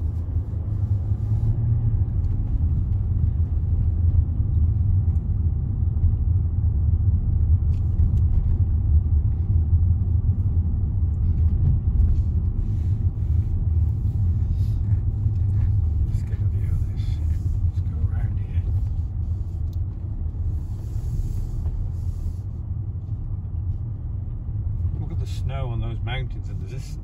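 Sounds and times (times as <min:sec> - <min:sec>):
car engine and tyre noise: 0:00.0 - 0:27.0.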